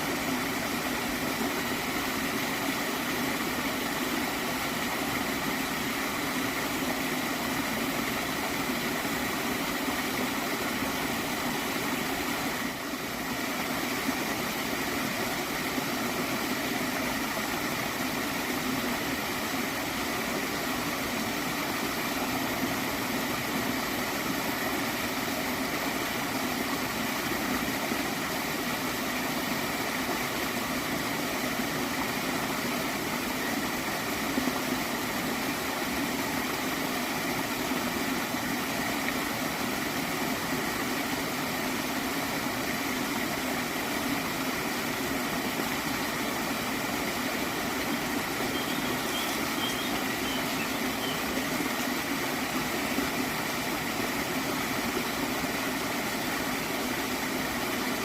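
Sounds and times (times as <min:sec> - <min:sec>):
stream water flowing and gurgling: 0:00.0 - 0:58.0.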